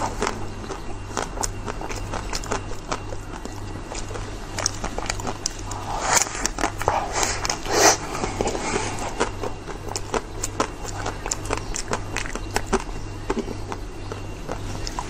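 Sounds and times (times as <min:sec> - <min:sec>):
chewing clicks: 0:00.0 - 0:15.0
crunching ice cream cone: 0:00.0 - 0:15.0.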